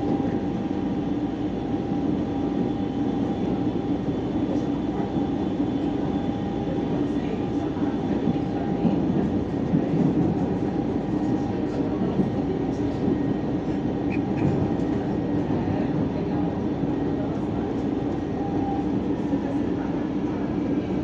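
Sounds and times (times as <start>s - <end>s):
electric train rumble and hum: 0.0s - 21.0s.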